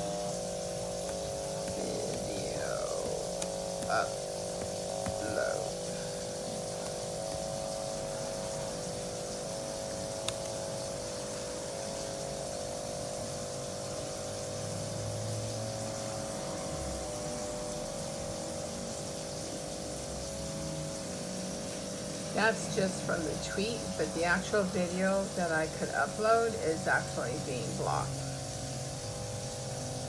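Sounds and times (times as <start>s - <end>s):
laptop electronic hum: 0.0s - 30.0s.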